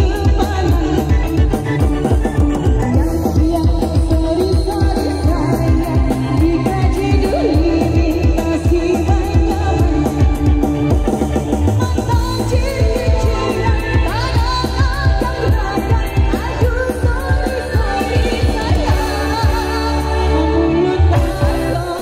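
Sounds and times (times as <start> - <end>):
person singing: 0.0 - 11.1, 11.8 - 22.0
fast drum beat: 0.0 - 19.8
loud bass-heavy music: 0.0 - 22.0.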